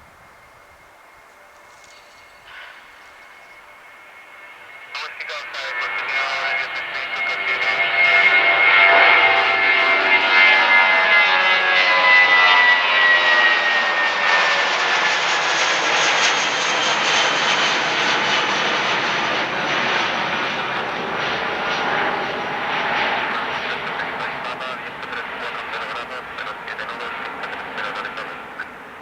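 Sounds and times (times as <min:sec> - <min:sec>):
jet engines roaring past: 0:00.0 - 0:29.0.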